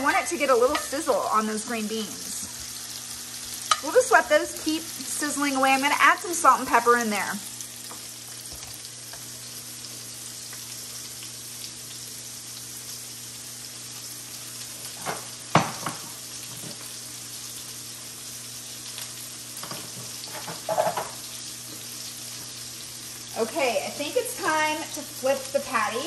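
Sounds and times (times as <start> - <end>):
beans sizzling in a pan: 0.0 - 26.0.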